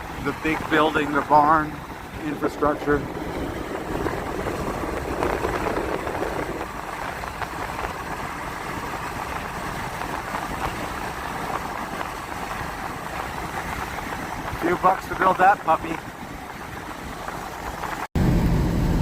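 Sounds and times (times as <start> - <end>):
road and engine noise in cabin: 0.0 - 19.0.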